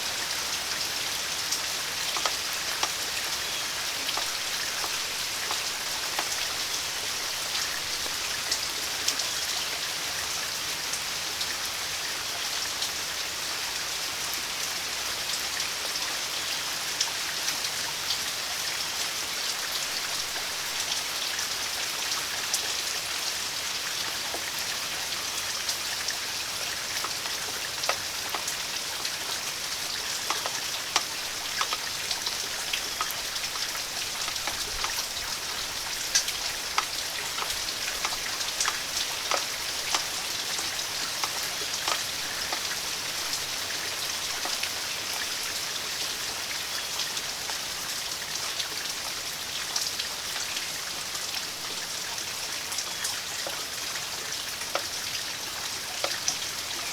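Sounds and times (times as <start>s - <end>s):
raindrops ticking on hard surface: 0.0s - 11.5s, 17.0s - 49.0s, 49.6s - 56.9s
steady rain hiss: 0.0s - 56.9s.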